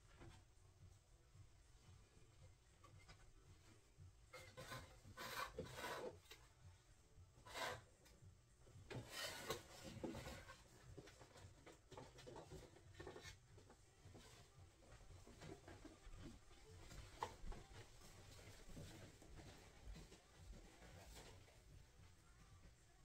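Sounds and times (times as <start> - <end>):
faint rubbing and scraping: 1.7 - 23.0.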